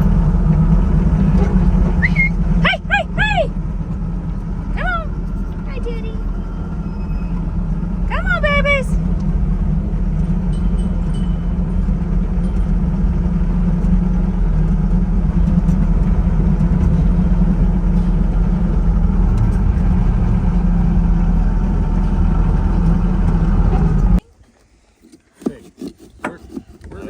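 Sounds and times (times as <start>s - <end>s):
vehicle engine rumbling: 0.0s - 24.2s.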